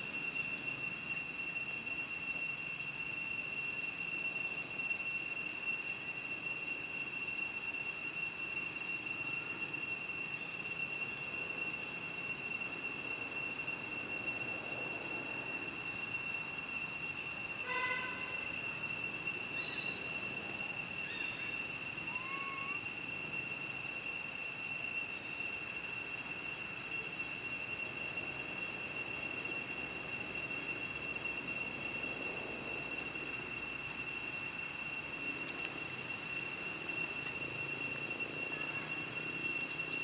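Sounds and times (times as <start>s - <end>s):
insect chorus drone: 0.0s - 40.0s
rising whistle: 0.0s - 40.0s
whistled chirps: 0.0s - 40.0s.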